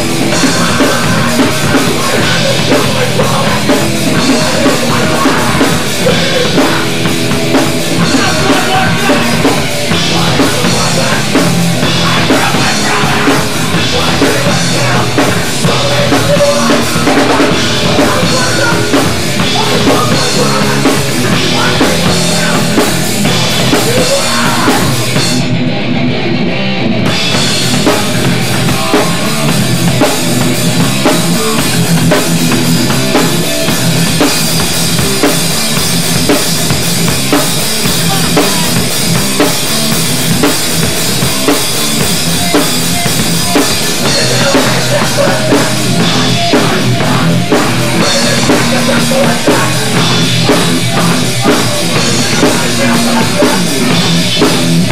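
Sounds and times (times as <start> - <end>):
hardcore rock band playing: 0.0 - 54.9.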